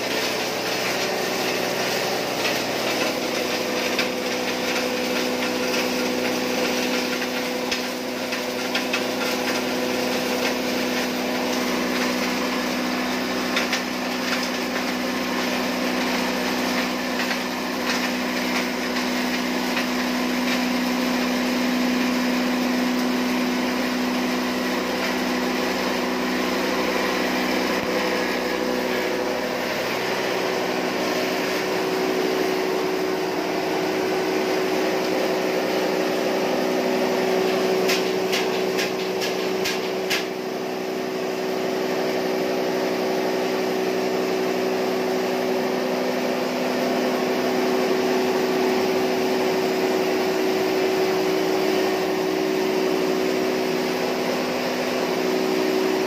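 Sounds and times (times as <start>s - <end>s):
grain mill droning: 0.0s - 56.0s.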